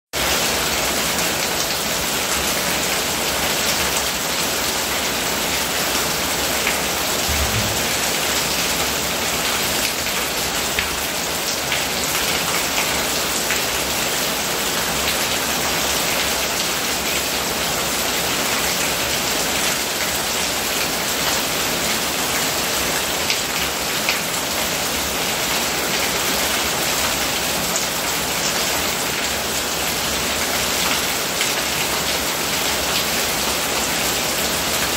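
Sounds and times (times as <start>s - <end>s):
steady rain pattering: 0.2s - 34.9s.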